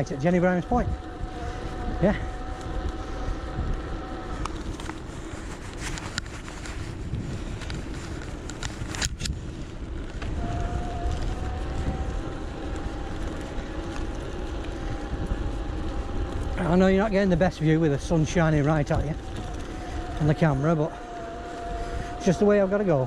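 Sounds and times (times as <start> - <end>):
electric motor whine: 0.0 - 23.0
tyres on road: 0.0 - 23.0
wind on microphone: 0.0 - 23.0.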